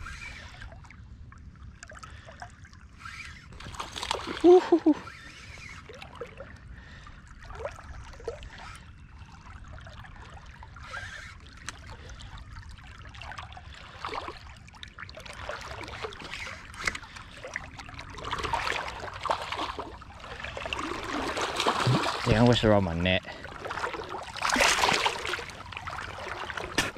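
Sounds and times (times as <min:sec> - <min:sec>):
water lapping against kayak hull: 0:00.0 - 0:26.9.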